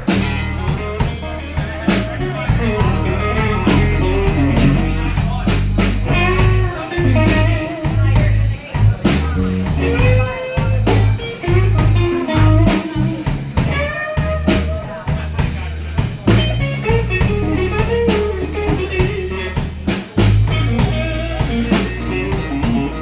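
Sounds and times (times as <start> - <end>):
bass line: 0.0 - 23.0
drum kit: 0.0 - 23.0
slide guitar lead: 0.0 - 23.0.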